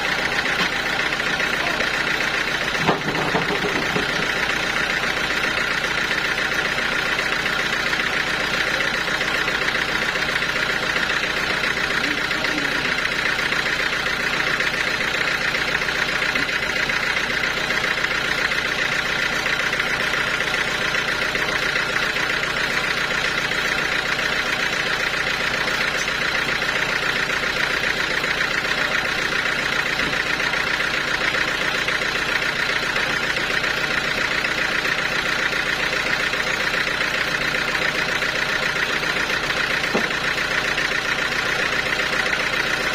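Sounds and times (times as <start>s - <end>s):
sawmill machinery drone: 0.0s - 42.9s.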